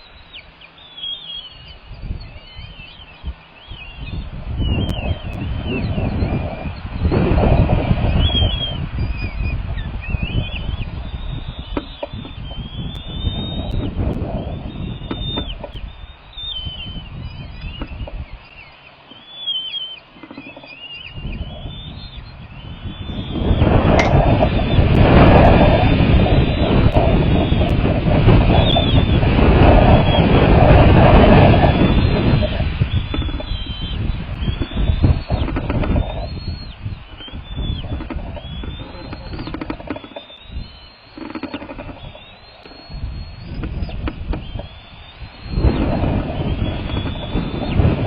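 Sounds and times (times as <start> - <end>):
eagles chirping and whistling: 0.0 - 48.0
wind on microphone: 1.4 - 19.3, 20.0 - 48.0.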